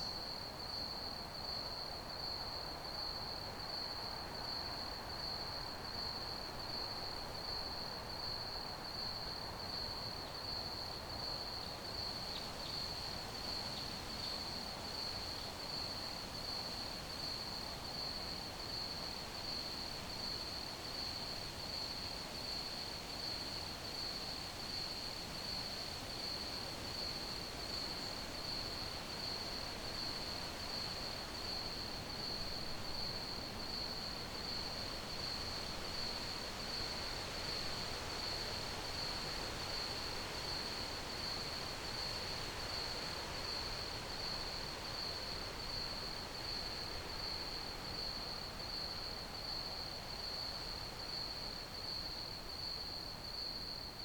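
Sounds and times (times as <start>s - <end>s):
low background hiss: 0.0s - 54.0s
crickets chirping: 9.7s - 54.0s.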